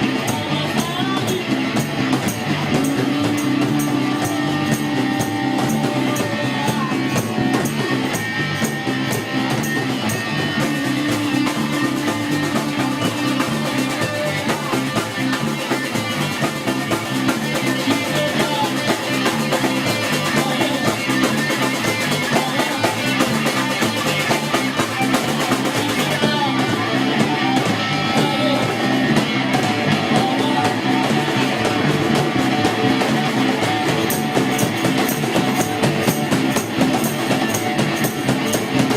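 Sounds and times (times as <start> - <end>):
drum kit: 0.0 - 38.9
guitar: 0.0 - 38.9
rock band playing live: 0.0 - 38.9.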